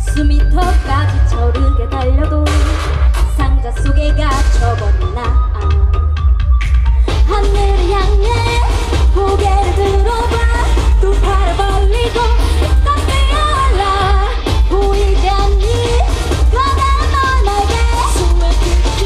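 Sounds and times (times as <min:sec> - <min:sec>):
female vocals over pop beat: 0:00.0 - 0:06.3, 0:07.0 - 0:19.0.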